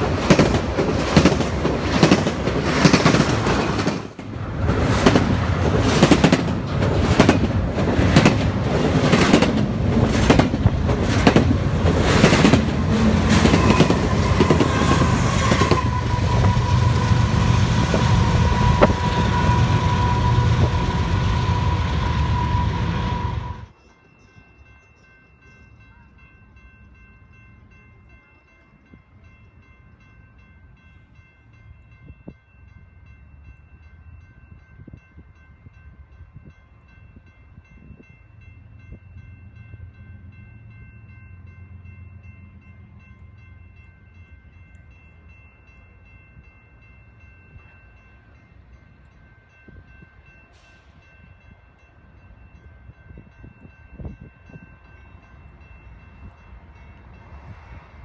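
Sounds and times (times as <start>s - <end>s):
crossing warning bells ringing: 0.0s - 58.0s
diesel freight train rumbling: 0.0s - 58.0s.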